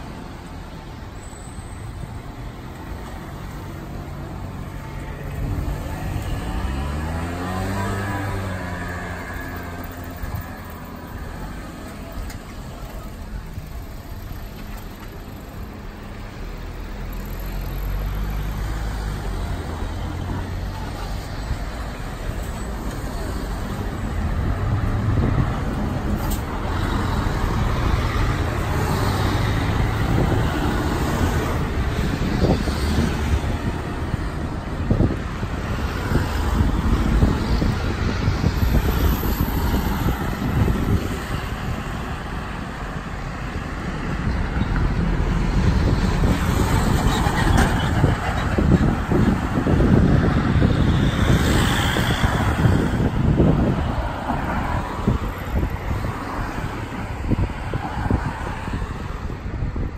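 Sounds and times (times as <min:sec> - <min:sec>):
car and bus engines: 0:00.0 - 0:59.9.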